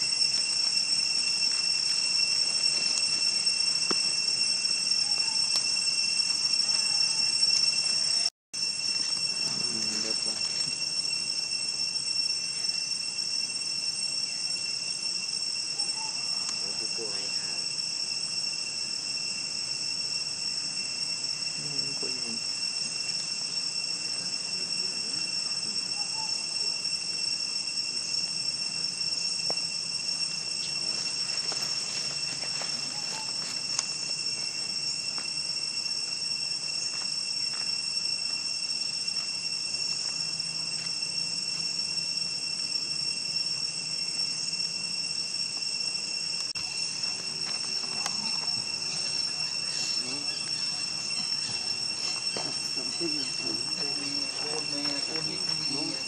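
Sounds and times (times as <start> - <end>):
insects chorus shrill drone: 0.0 - 56.0
lower steady tone: 0.0 - 56.0.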